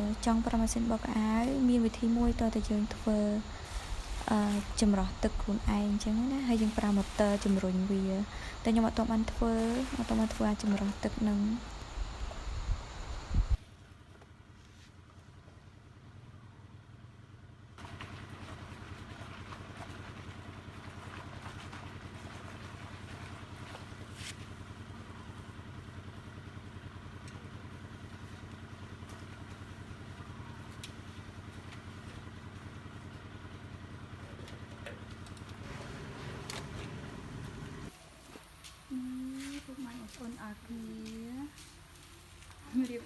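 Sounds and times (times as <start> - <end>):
small engine running: 0.0 - 13.4, 15.3 - 38.5.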